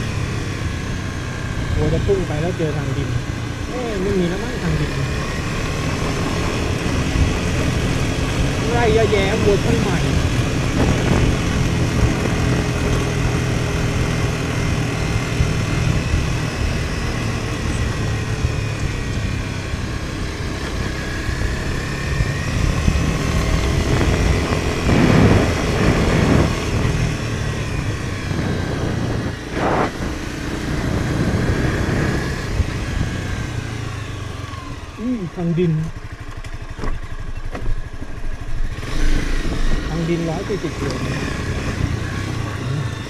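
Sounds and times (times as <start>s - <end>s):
car engine and tyre rumble on dirt road: 0.0s - 43.0s
rushes of noise: 4.6s - 35.1s, 37.9s - 43.0s.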